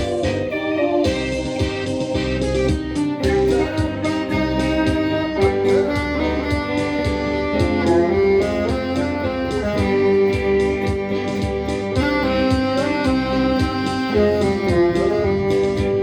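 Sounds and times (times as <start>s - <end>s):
band playing live music: 0.0s - 16.0s
guitar: 0.0s - 16.0s
steady drum beat: 0.0s - 16.0s.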